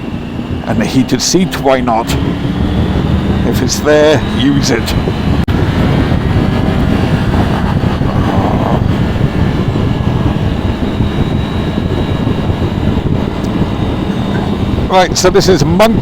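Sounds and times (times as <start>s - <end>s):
motorcycle engine running: 0.0s - 14.9s
road and wind noise: 0.0s - 16.0s.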